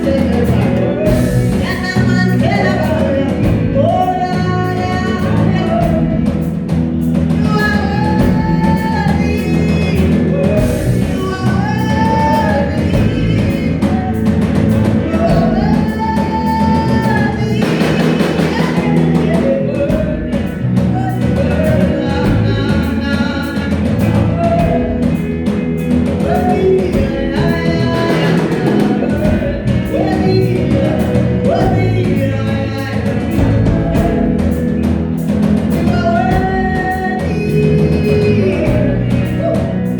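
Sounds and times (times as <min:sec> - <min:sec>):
band playing worship music: 0:00.0 - 0:39.9
people singing: 0:00.0 - 0:39.9.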